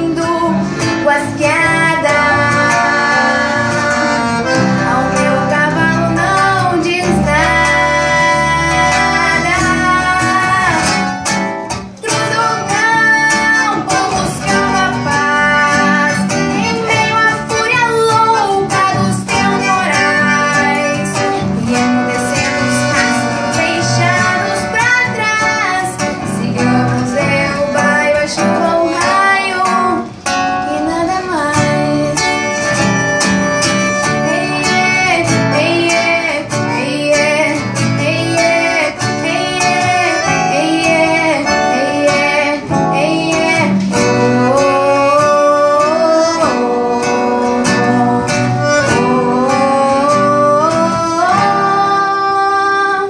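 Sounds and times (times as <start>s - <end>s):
girl singing: 0.0s - 11.0s, 11.9s - 53.0s
accordion: 0.0s - 53.0s
acoustic guitar: 0.0s - 53.0s.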